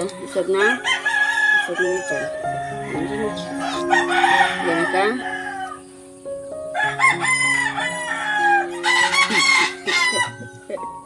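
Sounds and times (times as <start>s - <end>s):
roosters crowing: 0.0s - 10.6s.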